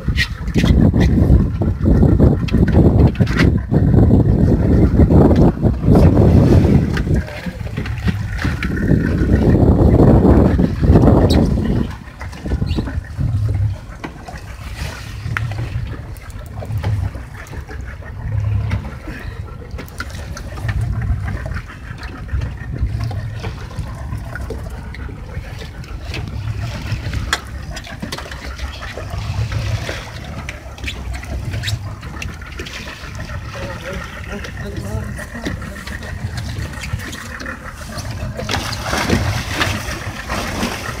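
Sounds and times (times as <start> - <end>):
low rumbles: 0.0 - 41.0
water splashing against boat hull: 0.0 - 41.0.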